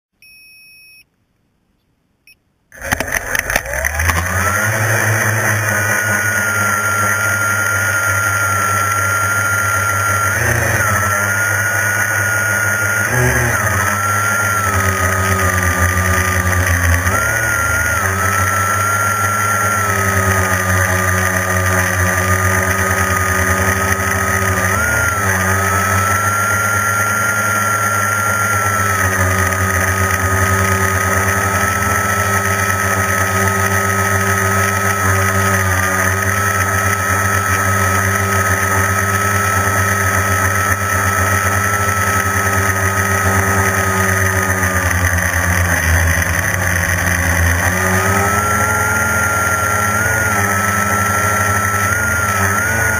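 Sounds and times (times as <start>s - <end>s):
drone propellers whining: 2.7s - 52.9s.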